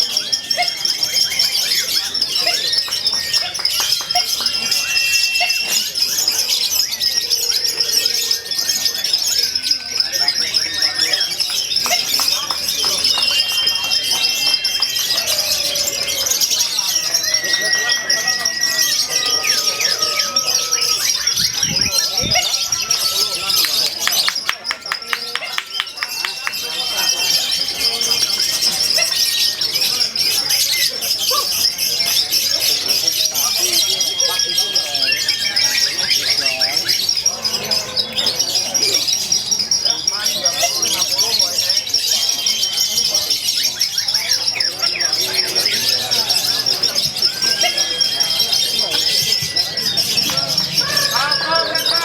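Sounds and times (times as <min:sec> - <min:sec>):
birds singing: 0:00.0 - 0:52.0.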